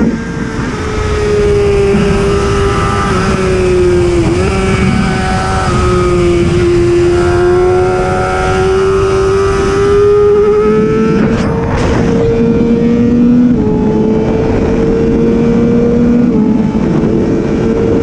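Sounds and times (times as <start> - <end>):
steady rushing noise: 0.0 - 18.0
superbike engine at high revs: 0.0 - 18.0.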